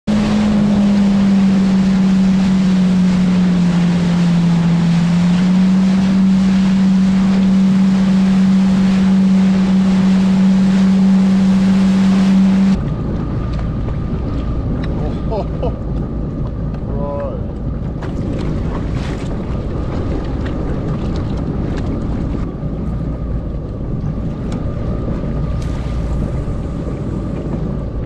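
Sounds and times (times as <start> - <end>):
jet ski engine running: 0.0 - 28.0
wind and water spray rushing: 0.0 - 28.0.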